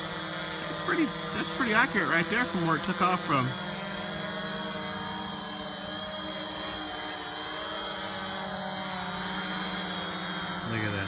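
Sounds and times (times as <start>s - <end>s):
quadcopter buzzing hum: 0.0s - 11.0s.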